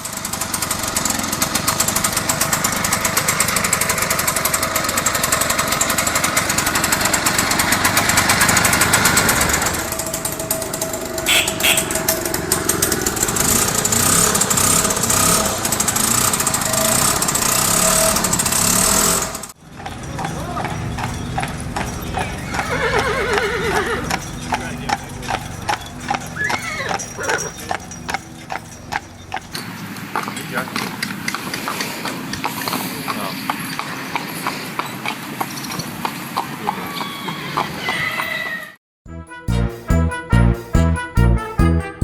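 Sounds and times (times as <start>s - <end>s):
small combustion engine running: 0.0s - 34.5s.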